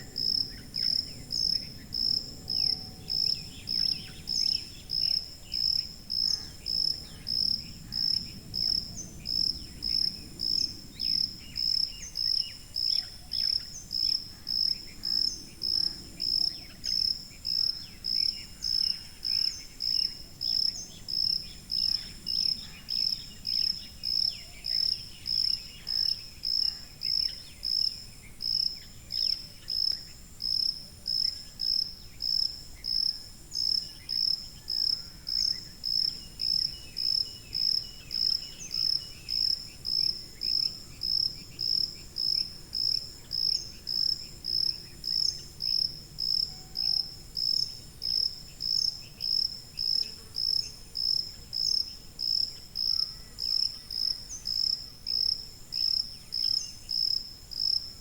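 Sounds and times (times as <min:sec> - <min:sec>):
cricket chirping: 0:00.0 - 0:58.0
faint insect chirps: 0:00.0 - 0:58.0.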